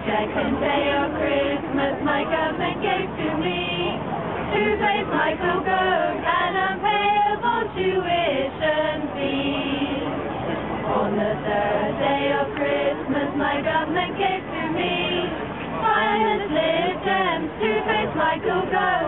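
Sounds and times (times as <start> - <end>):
group singing unaccompanied: 0.0 - 10.2, 10.8 - 19.0.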